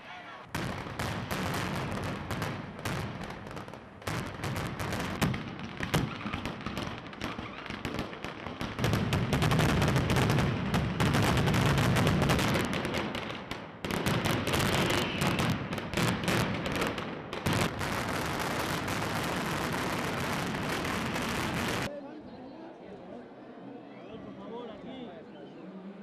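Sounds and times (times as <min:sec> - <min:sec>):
firecracker barrage: 0:00.5 - 0:21.9.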